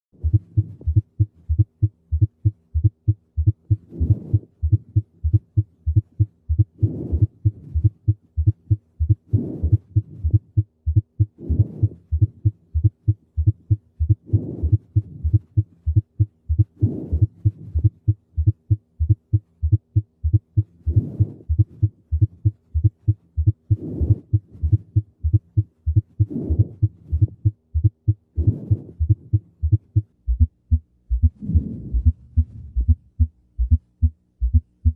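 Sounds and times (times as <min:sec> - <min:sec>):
heart swish: 0:00.2 - 0:34.9
heartbeat thumps: 0:00.2 - 0:34.9.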